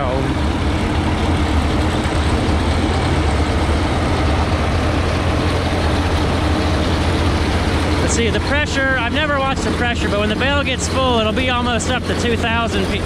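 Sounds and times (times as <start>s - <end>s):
tractor and baler drone: 0.0s - 13.0s.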